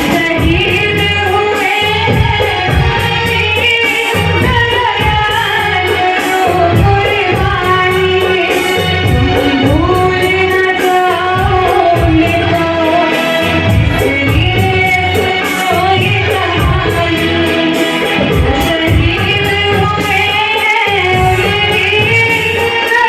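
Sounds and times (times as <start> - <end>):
backing track with rhythmic beat: 0.0 - 23.0
girl singing: 0.0 - 23.0.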